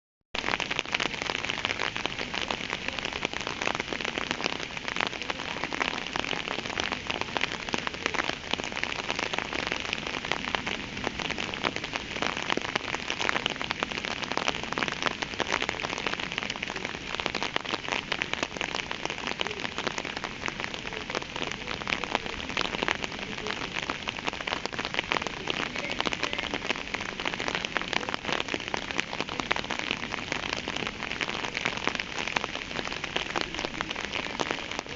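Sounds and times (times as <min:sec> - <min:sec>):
rain pattering: 0:00.4 - 0:34.9.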